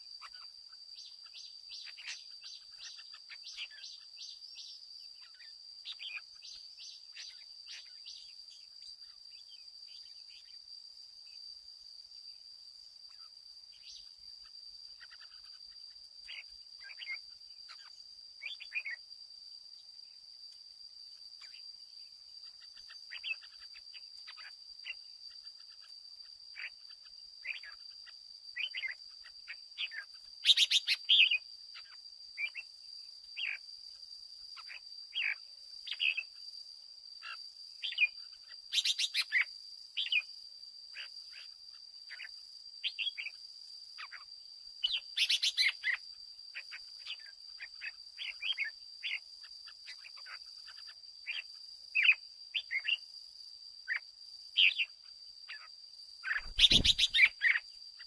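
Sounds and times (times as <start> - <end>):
bird singing chirping phrases: 0.0 - 10.6, 13.1 - 19.0, 21.4 - 25.9, 26.5 - 32.7, 33.4 - 33.6, 34.6 - 36.4, 37.2 - 40.3, 42.1 - 43.4, 44.0 - 53.1, 53.8 - 58.0.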